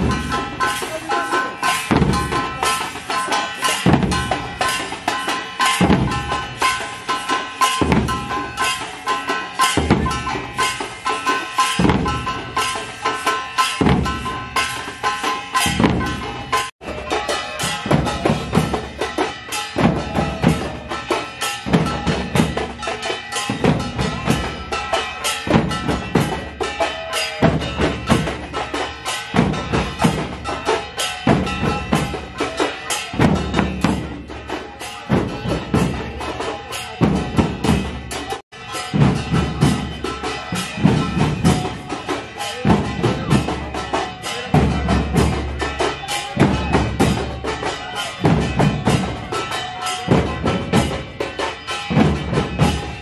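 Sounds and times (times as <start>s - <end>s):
music with percussive beat: 0.0s - 53.0s.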